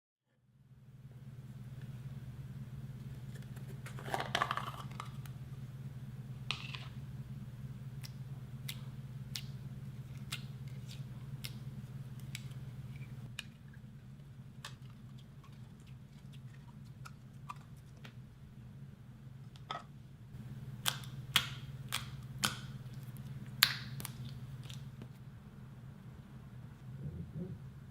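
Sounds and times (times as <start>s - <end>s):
low hum: 0.4s - 27.9s.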